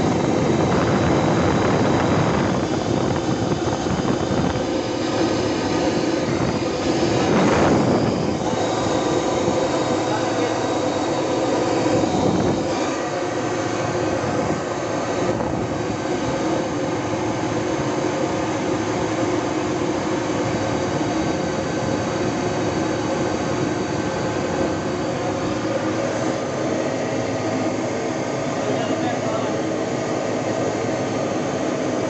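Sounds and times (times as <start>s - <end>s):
diesel engine running steadily: 0.0s - 32.0s.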